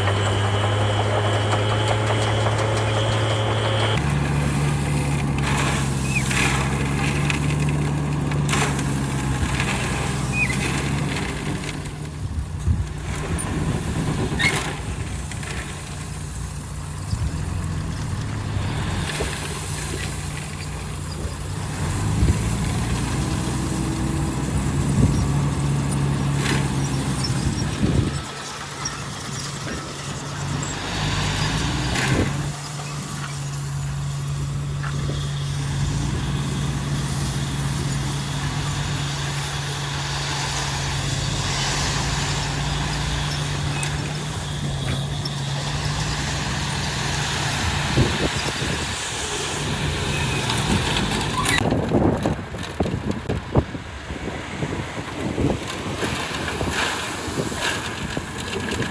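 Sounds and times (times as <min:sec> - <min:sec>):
diesel engines droning: 0:00.0 - 0:58.9.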